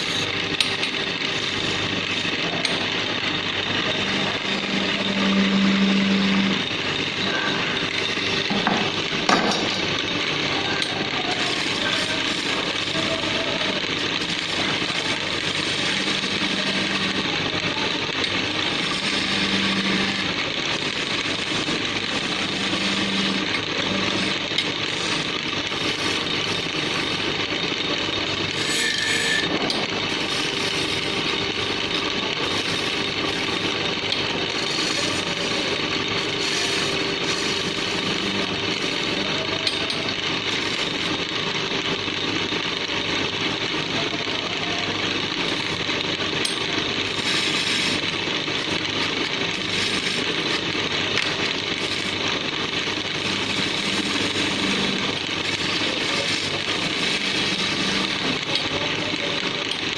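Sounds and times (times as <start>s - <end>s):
tool cutting wood on lathe: 0.0s - 59.9s
wood lathe humming: 0.0s - 59.9s.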